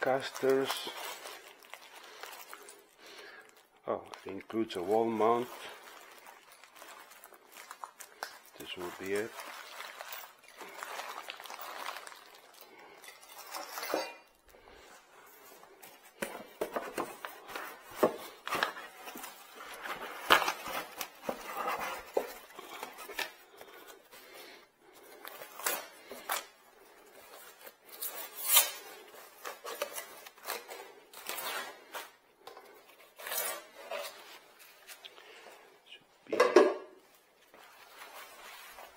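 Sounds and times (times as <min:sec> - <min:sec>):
packaging rustling: 0:00.0 - 0:35.6, 0:37.0 - 0:38.9.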